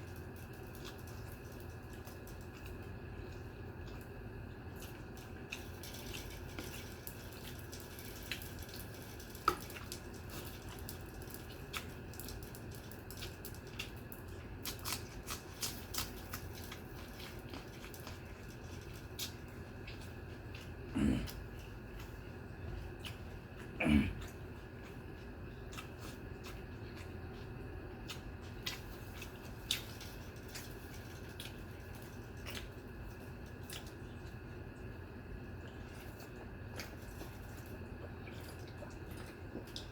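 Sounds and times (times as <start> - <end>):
steady low hum: 0.0 - 39.9
wet eating clicks and smacks: 0.0 - 39.9.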